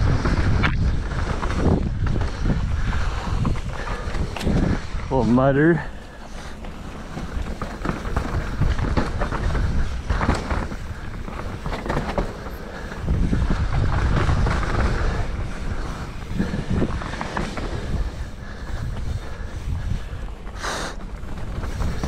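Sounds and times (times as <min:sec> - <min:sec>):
bike chain and frame rattling: 0:00.0 - 0:22.0
wind buffeting microphone: 0:00.0 - 0:22.0.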